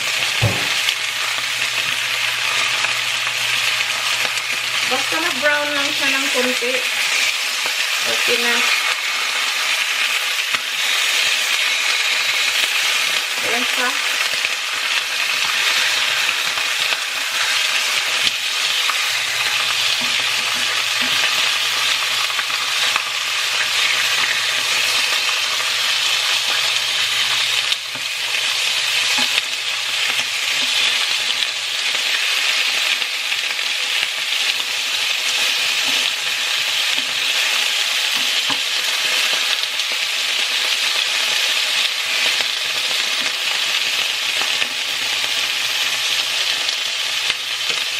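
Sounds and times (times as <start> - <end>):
meat sizzling in hot oil: 0.0 - 47.9.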